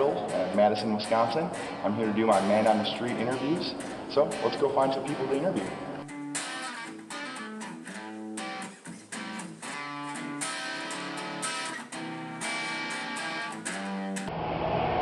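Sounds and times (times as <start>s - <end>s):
strummed guitar: 0.0s - 15.0s.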